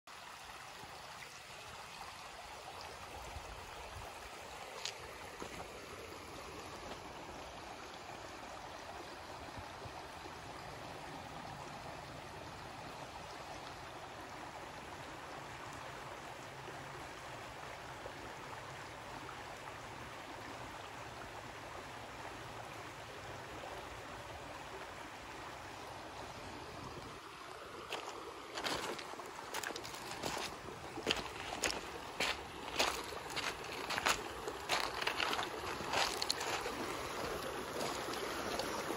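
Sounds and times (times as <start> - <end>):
creek babbling over stones: 0.1 - 38.9.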